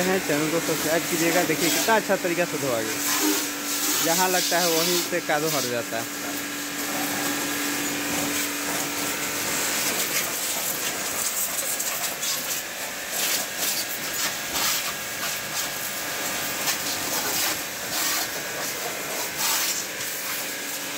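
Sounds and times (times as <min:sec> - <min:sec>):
pressure washer jet hissing: 0:00.0 - 0:20.9.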